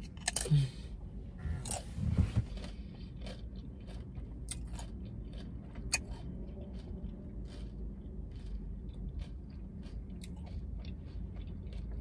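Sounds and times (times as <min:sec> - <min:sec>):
person chewing food: 0:00.0 - 0:12.0
steady low hum: 0:00.0 - 0:12.0.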